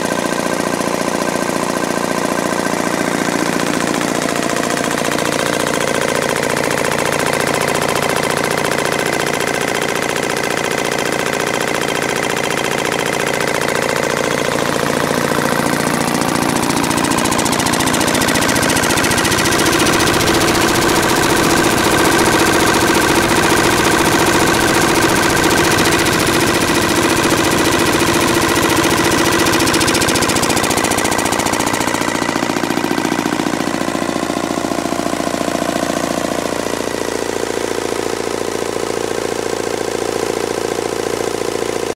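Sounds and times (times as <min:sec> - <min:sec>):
diesel engine knocking steadily: 0:00.0 - 0:41.9.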